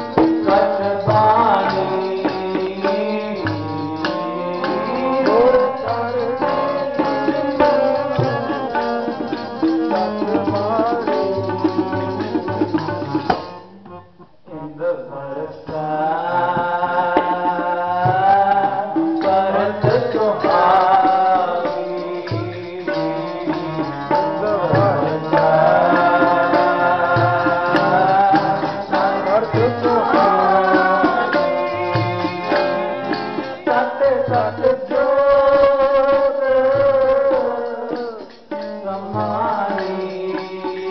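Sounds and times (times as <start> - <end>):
tabla rhythm: 0.0 - 14.0, 15.2 - 40.9
devotional singing: 0.0 - 40.9
harmonium: 0.0 - 40.9.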